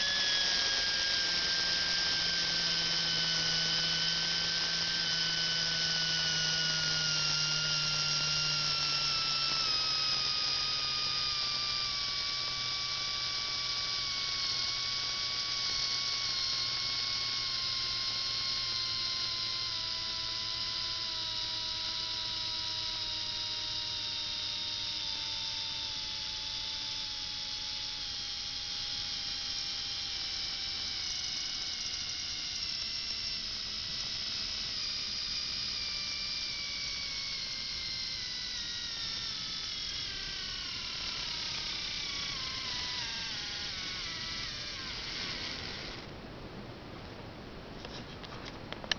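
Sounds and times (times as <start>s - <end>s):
electric motor whine: 0.0s - 46.2s.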